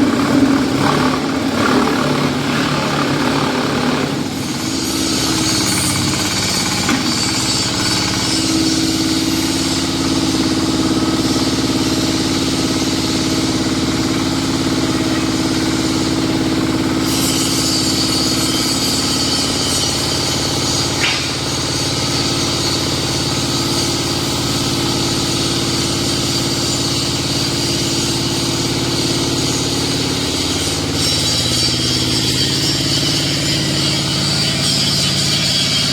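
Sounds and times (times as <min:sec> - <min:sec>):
concrete block machine drone: 0:00.0 - 0:35.9.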